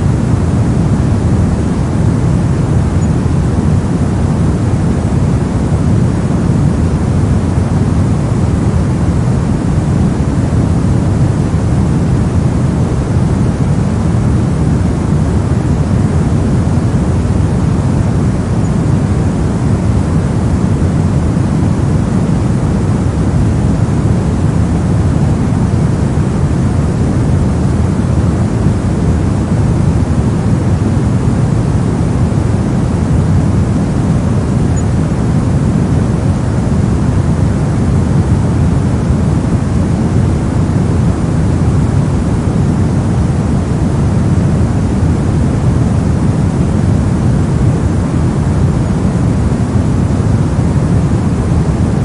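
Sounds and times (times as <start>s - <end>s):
deep steady noise: 0.0s - 52.0s.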